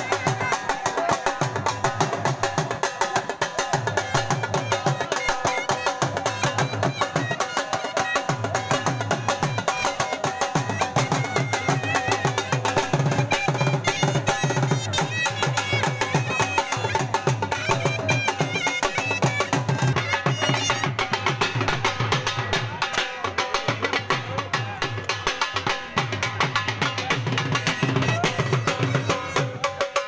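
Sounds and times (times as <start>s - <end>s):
dhol drumming fast beat: 0.0s - 30.0s.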